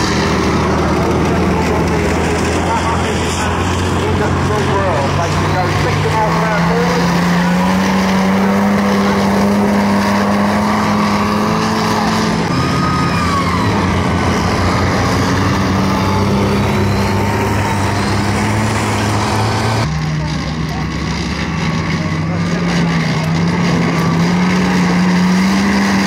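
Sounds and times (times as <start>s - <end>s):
tracked vehicle engines droning: 0.0s - 26.0s.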